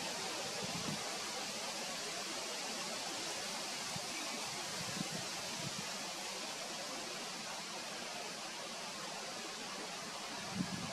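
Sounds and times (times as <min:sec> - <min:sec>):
outdoor background hiss: 0:00.0 - 0:10.9.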